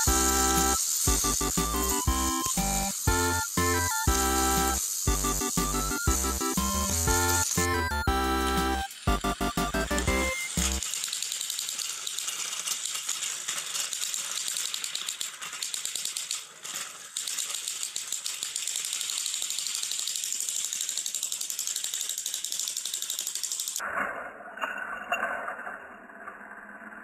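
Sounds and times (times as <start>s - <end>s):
toy train motors rattling: 0.0s - 23.8s.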